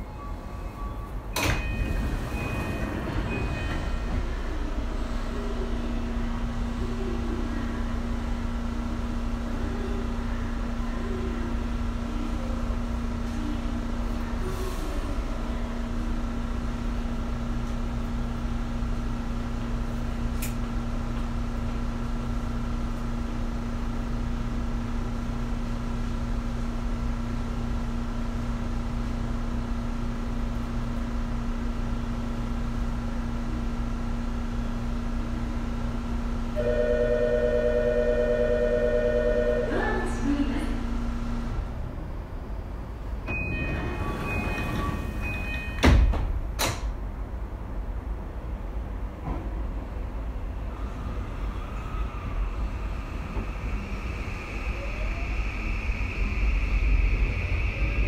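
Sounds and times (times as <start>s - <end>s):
train equipment low hum: 0.0s - 58.0s.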